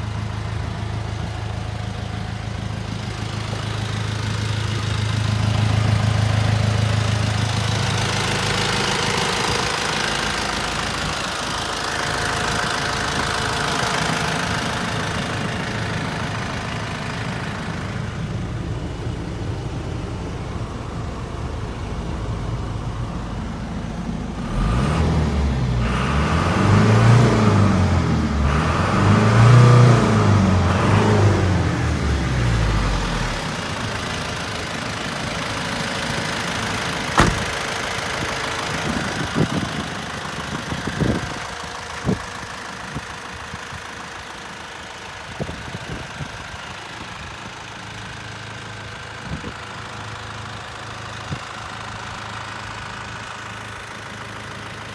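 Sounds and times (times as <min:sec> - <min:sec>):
truck engine idling and revving: 0:00.0 - 0:54.9.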